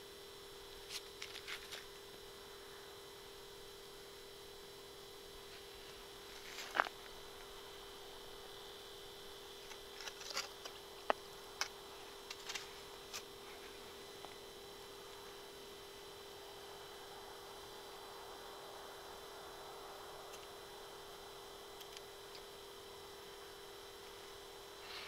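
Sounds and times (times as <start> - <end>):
electrical hum: 0.0 - 25.0
high whine: 0.0 - 25.0.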